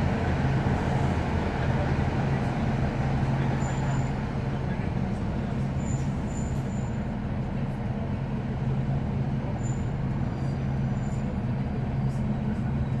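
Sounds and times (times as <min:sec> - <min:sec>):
train diesel engine droning: 0:00.0 - 0:13.0.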